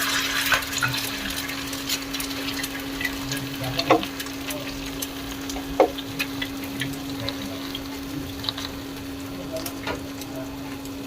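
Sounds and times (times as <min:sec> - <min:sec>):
egg frying with crackles: 0:00.0 - 0:11.0
steady hum: 0:00.0 - 0:11.0.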